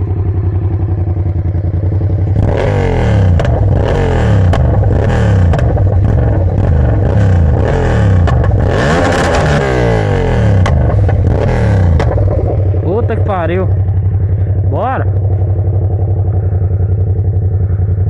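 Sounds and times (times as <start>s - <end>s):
exhaust cracks: 0.0s - 18.0s
motorcycle engine revving: 0.0s - 18.0s.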